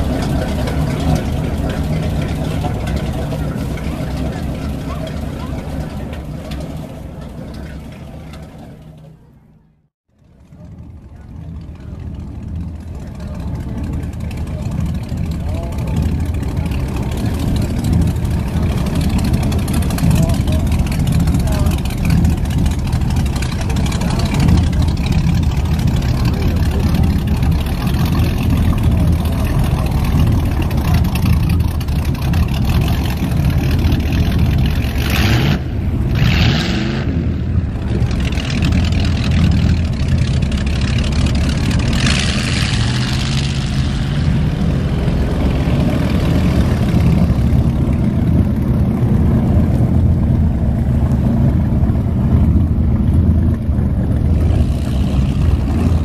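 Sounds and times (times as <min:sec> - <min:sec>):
boat engines rumbling: 0:00.0 - 0:56.0.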